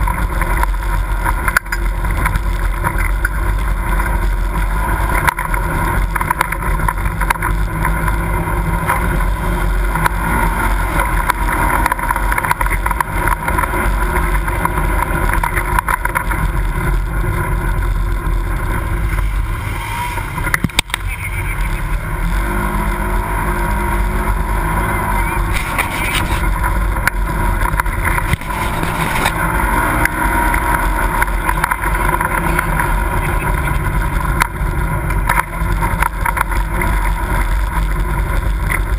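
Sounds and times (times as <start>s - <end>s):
utility vehicle engine running: 0.0s - 38.9s.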